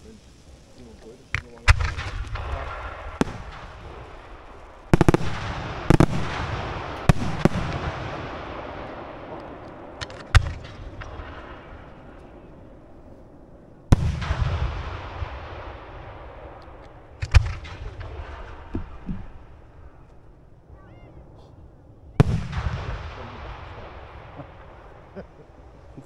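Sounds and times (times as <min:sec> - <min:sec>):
fireworks bangs: 0:00.0 - 0:26.0
fireworks crackle and rumble: 0:00.0 - 0:26.0.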